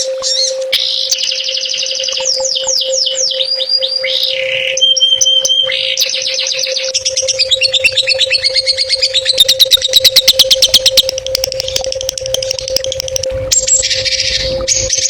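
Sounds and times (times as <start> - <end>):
faint steady hum: 0.0 - 15.0
songbird chirping and trilling: 0.0 - 15.0.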